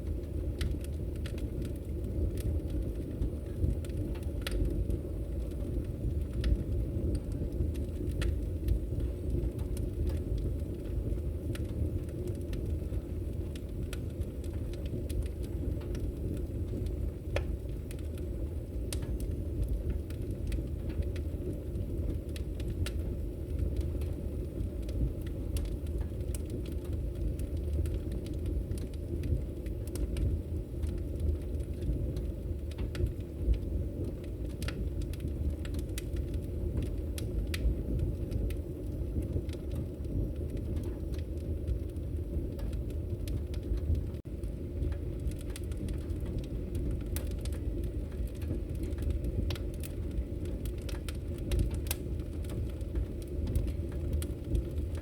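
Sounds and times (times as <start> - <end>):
fire crackling and popping: 0.0 - 55.0
fire rumbling in fireplace: 0.0 - 55.0.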